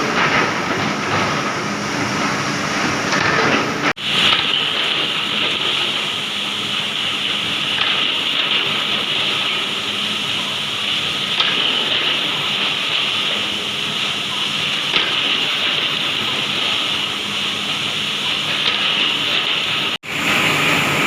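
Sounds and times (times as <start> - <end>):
machinery hissing: 0.0 - 21.0
machinery low hum: 0.0 - 21.0.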